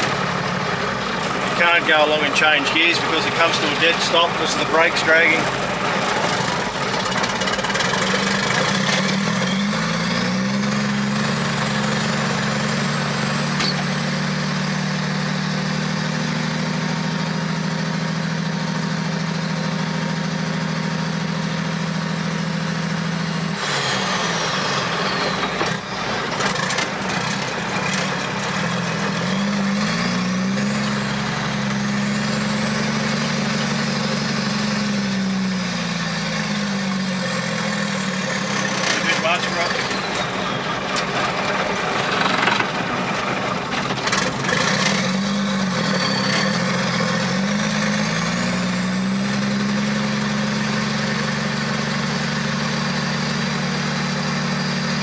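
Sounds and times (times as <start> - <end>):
truck diesel engine: 0.0 - 55.0.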